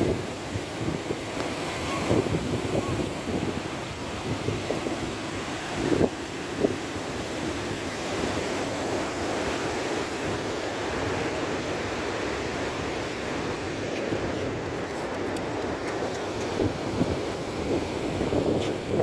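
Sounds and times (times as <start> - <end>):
surf washing and breaking: 0.0 - 19.0
wind on microphone: 0.0 - 19.0.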